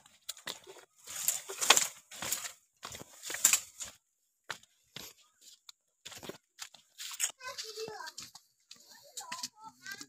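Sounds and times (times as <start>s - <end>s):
footsteps on dry leaves: 0.0s - 10.0s.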